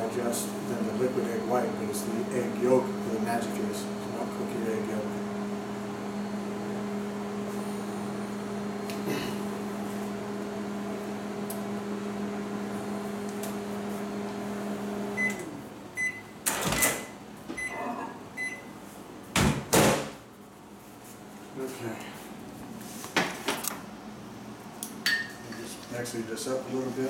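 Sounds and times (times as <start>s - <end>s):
microwave oven humming: 0.0s - 22.8s, 23.4s - 27.0s.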